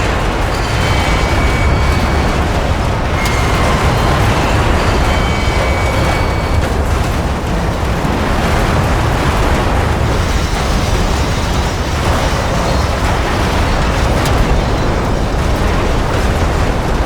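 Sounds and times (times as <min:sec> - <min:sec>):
train crash wreckage rumble: 0:00.0 - 0:17.0.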